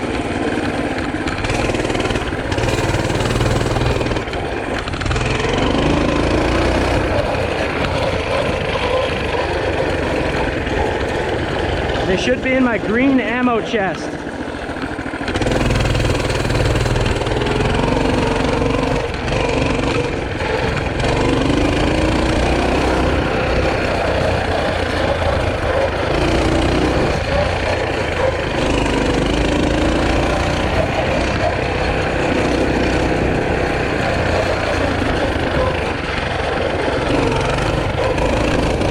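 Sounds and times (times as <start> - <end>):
small engine starting and running: 0.0 - 38.9.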